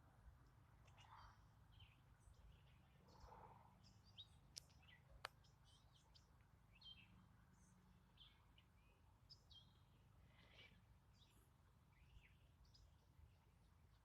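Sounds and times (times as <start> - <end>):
faint bird chirps: 0.8 - 14.0.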